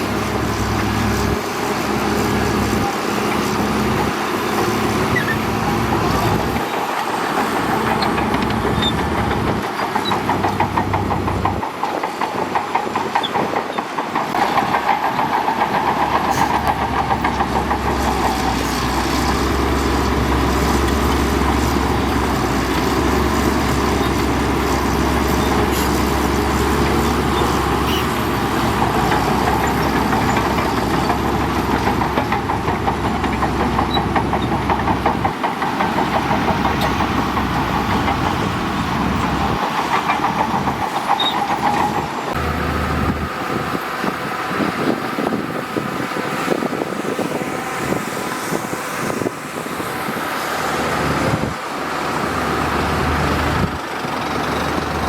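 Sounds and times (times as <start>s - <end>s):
bulldozer diesel engine: 0.0s - 55.0s
steel tracks clattering: 0.0s - 55.0s.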